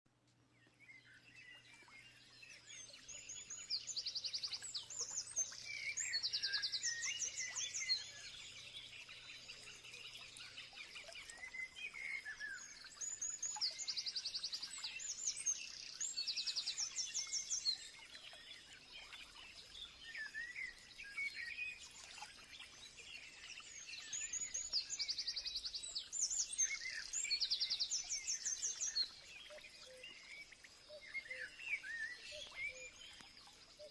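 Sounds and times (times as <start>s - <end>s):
faint steady hiss: 0.1s - 33.9s
songbirds chirping and trilling: 0.2s - 33.9s.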